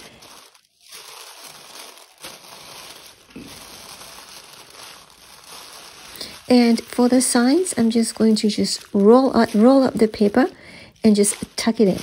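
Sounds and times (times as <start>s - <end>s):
tissue paper rustling and crinkling: 0.0s - 12.0s.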